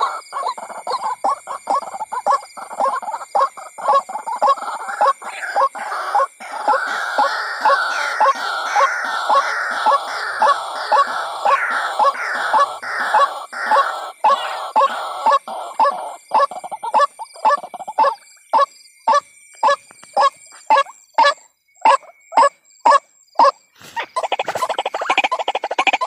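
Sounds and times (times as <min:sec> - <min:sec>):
waterhen croaking calls: 0:00.0 - 0:26.0.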